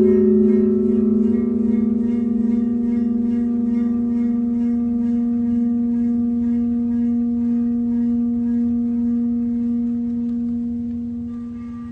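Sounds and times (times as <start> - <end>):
low ringing tone: 0.0 - 11.9.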